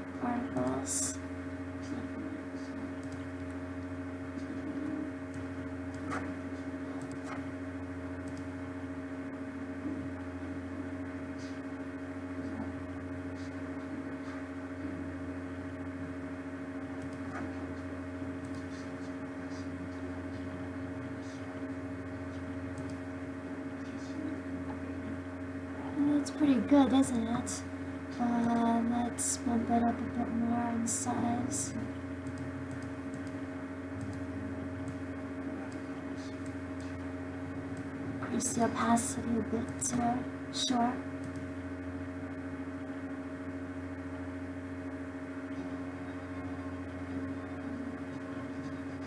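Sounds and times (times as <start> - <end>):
steady electrical hum: 0.0 - 49.0.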